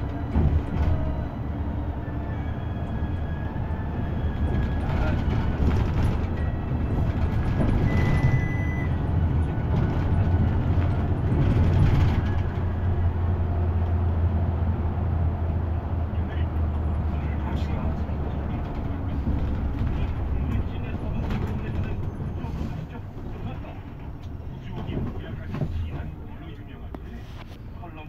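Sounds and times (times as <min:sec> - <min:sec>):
bus engine droning: 0:00.0 - 0:28.0
road noise: 0:00.0 - 0:28.0.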